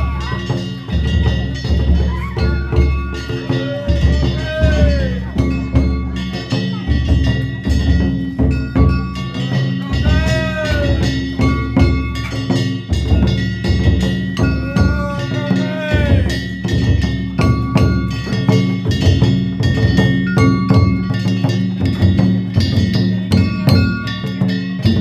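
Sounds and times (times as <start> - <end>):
hand gongs clanging: 0.0 - 25.0
taiko drum beating rapidly: 0.0 - 25.0.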